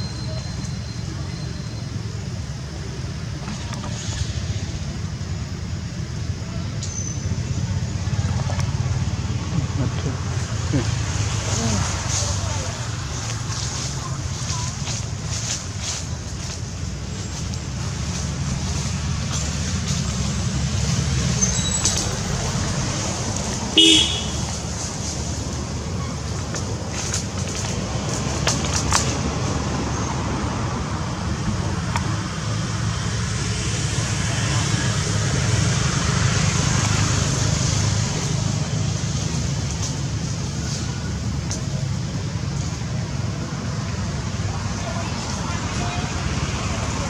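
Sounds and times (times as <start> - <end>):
outdoor background rumble: 0.0 - 47.0.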